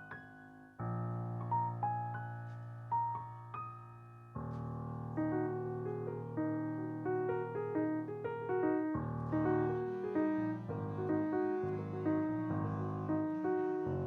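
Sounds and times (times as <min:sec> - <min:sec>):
piano-like keyboard melody: 0:00.0 - 0:14.0.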